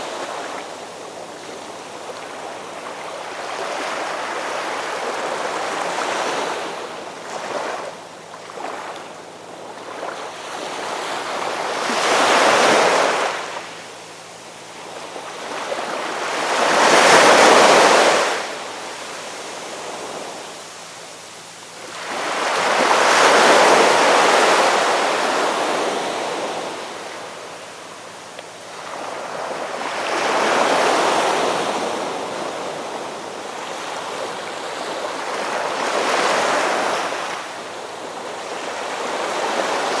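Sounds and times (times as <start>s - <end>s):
ocean waves surging and washing: 0.0s - 40.0s.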